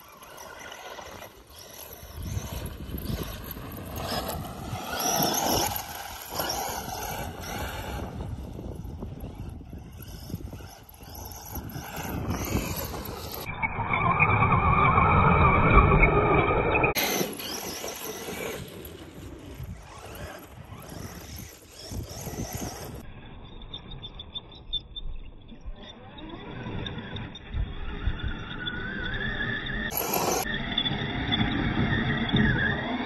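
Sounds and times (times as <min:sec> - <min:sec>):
rc truck electric motor whining: 0:00.0 - 0:33.0
tires on loose sand and dirt: 0:00.0 - 0:33.0.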